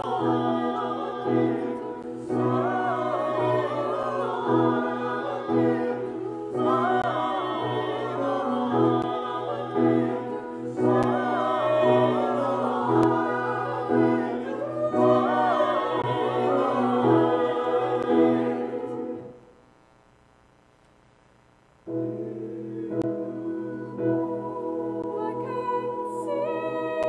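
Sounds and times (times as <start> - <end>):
grand piano accompaniment: 0.0 - 19.4, 21.9 - 26.9
mixed choir singing in harmony: 0.0 - 19.4, 21.9 - 27.0.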